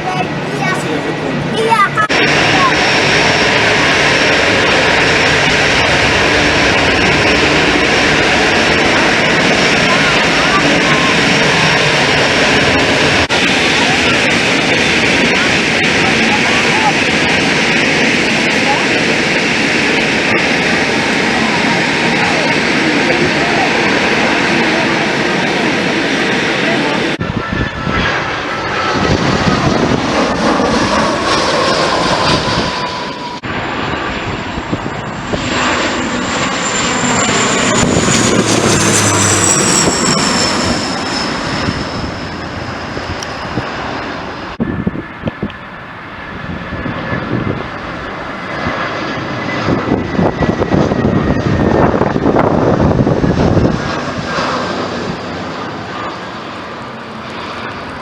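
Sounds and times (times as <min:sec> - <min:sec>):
airliner engines roaring: 0:00.0 - 0:58.0.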